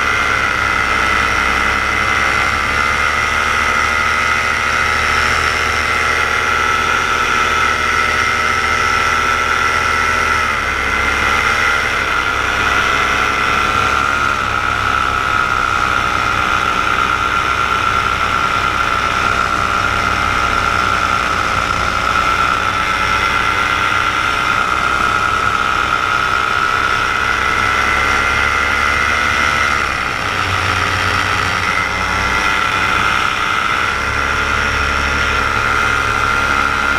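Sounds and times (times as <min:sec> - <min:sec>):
paramotor engine and propeller drone: 0:00.0 - 0:36.9.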